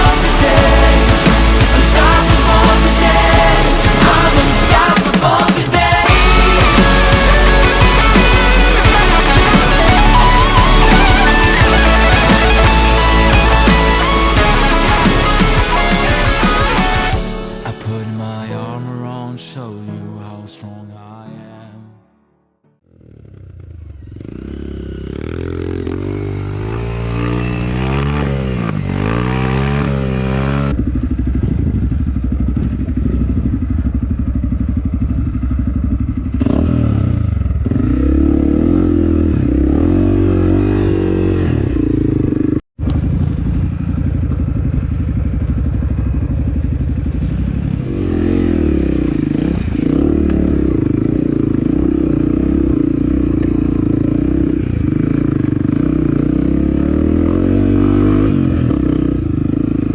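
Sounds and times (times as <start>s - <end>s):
motorcycle engines revving: 0.0s - 17.6s, 22.9s - 59.9s.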